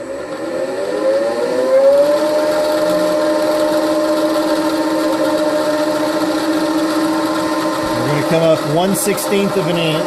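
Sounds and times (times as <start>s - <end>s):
milling machine motor whine: 0.0s - 10.0s.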